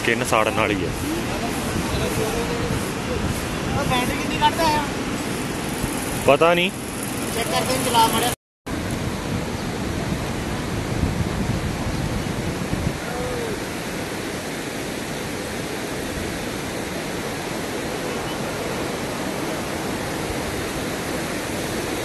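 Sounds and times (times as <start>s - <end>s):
river rushing over rocks: 0.1s - 22.0s.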